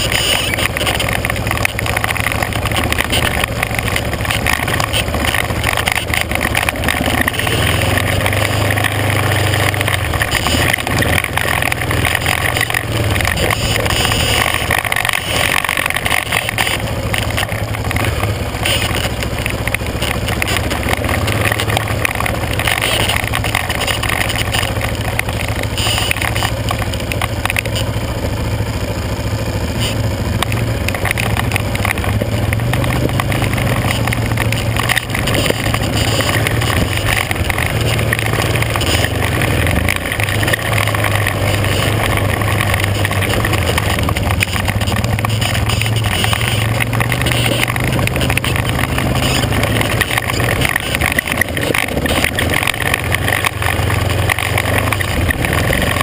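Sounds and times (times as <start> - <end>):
atv engine droning: 0.0 - 56.0
rushing ride noise: 0.0 - 56.0.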